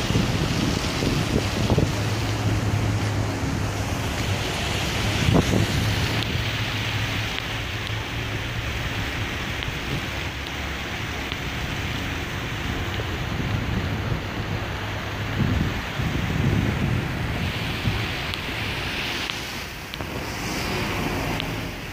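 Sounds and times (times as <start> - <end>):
fountain water splashing: 0.0 - 21.9.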